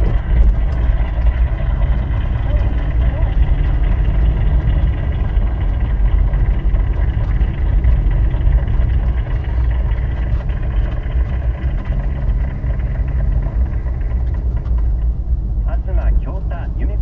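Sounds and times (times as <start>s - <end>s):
off-road vehicle engine rumble: 0.0s - 17.0s.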